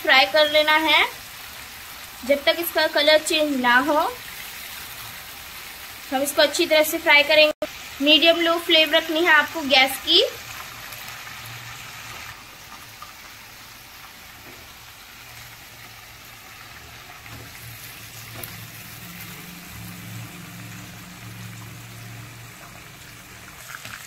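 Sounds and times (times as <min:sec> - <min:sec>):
chicken frying in oil: 0:00.0 - 0:24.0.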